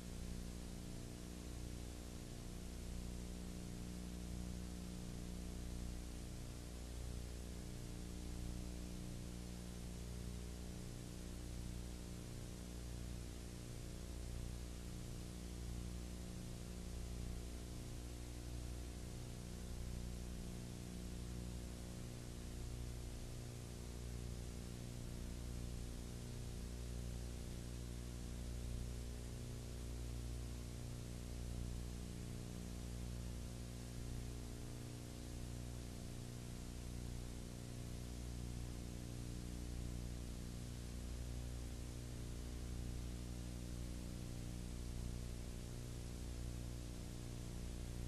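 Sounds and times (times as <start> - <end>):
buzzy electrical hum: 0.0 - 48.0.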